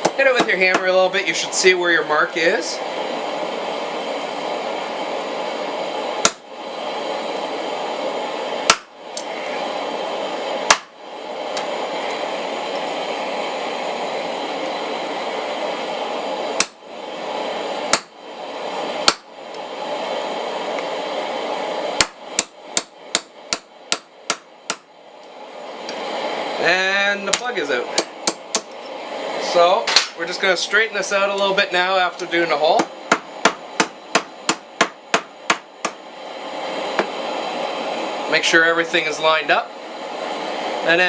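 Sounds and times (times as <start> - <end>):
steady rushing noise: 0.0 - 41.0.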